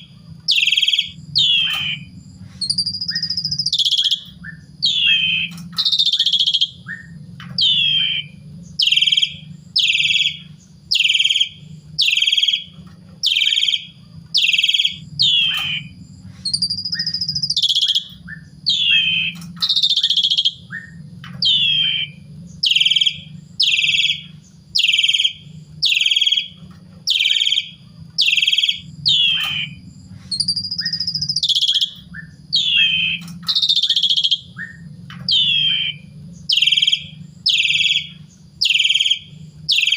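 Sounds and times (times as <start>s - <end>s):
low hum: 0.0s - 39.9s
starling harsh calls: 0.0s - 39.9s.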